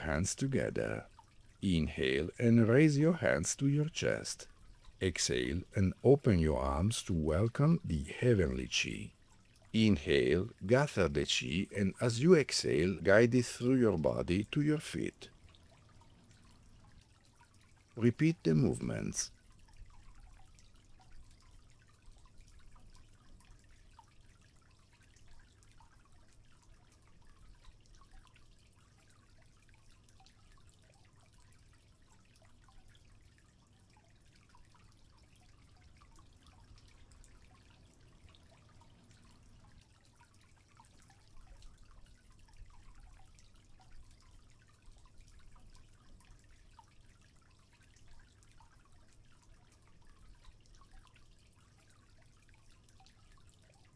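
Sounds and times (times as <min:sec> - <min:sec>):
water dripping and trickling: 0:00.0 - 0:53.9.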